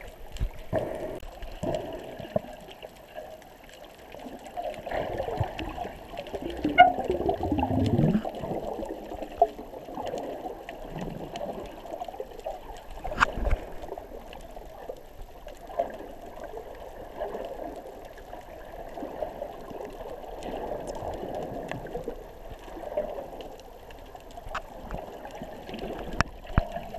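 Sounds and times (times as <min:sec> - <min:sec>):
muffled moving water: 0:00.0 - 0:26.9
small clicks and crackles: 0:00.0 - 0:26.9.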